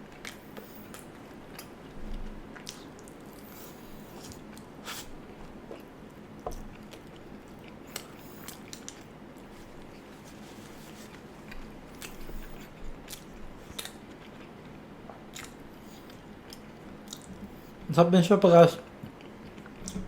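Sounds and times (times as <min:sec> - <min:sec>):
person chewing food: 0:00.0 - 0:17.9, 0:19.0 - 0:20.0.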